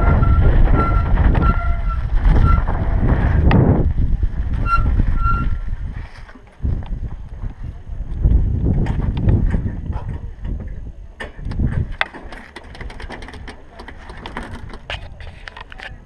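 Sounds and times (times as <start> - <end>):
tyres rumbling on dirt: 0.0 - 16.0
wind buffeting microphone: 0.0 - 16.0.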